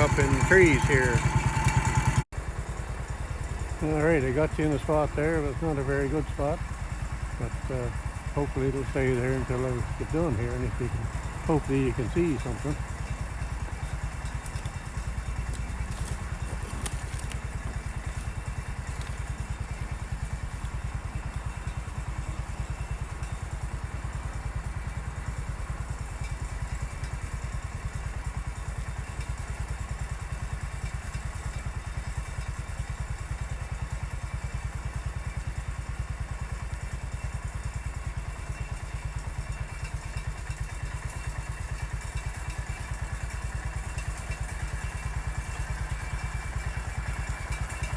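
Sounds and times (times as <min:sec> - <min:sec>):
bulldozer engine running: 0:00.0 - 0:47.9.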